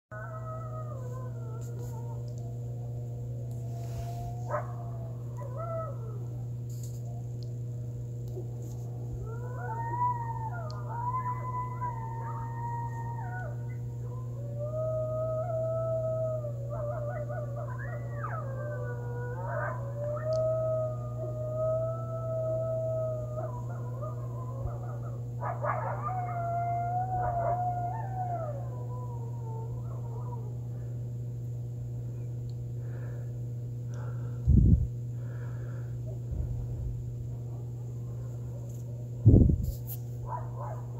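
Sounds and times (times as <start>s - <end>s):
coyotes howling and yipping: 0.1s - 34.2s, 40.2s - 40.9s
steady low hum: 0.1s - 40.9s.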